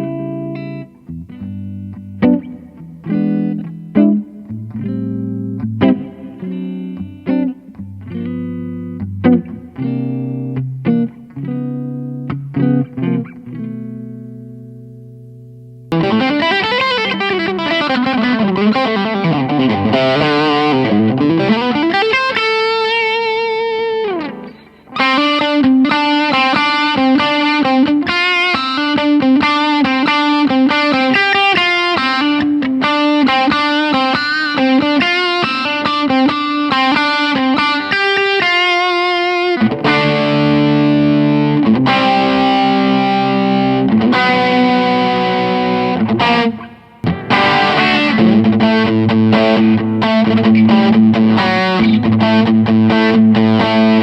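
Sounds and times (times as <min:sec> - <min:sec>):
overdriven electric guitar lead: 0:00.0 - 0:54.0.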